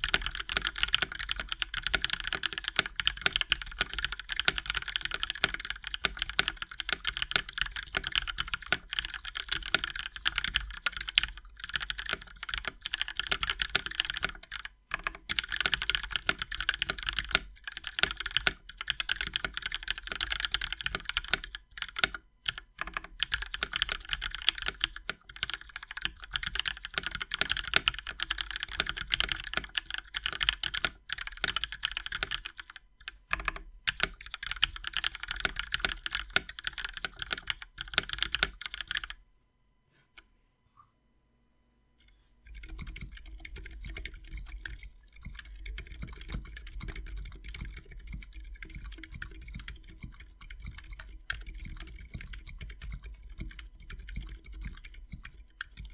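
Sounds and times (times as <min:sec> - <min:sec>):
mechanical keyboard typing: 0:00.0 - 0:39.2, 0:42.4 - 0:55.9.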